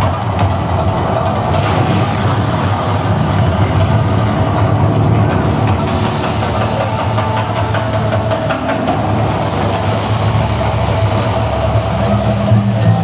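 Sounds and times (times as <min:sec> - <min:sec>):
crackles: 0:00.0 - 0:13.0
deep rumble over loudspeakers: 0:00.0 - 0:13.0.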